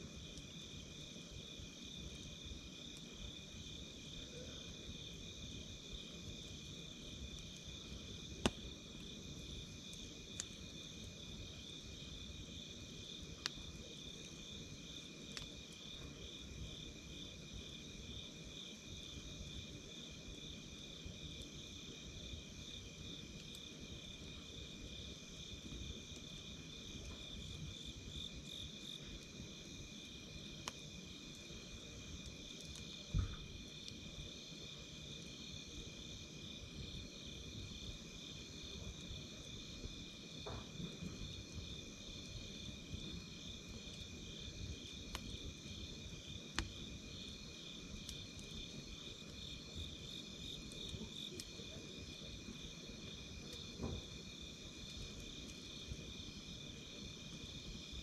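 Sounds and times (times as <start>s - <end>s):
campfire crackling: 0.0s - 58.0s
night insects chorus: 0.1s - 58.0s.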